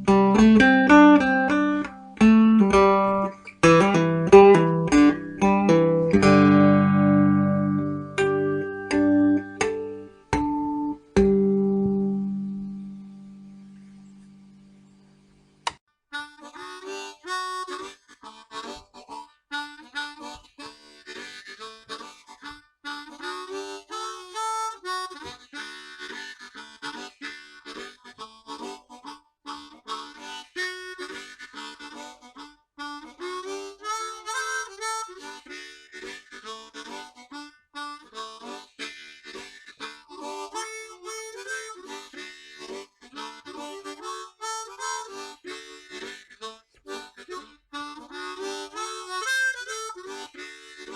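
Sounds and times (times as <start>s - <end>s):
harmonica melody: 0.0s - 13.7s, 15.7s - 50.9s.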